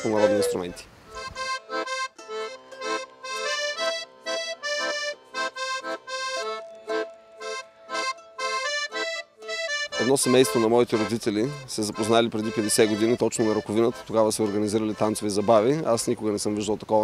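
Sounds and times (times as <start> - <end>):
accordion folk tune: 0.0 - 16.7.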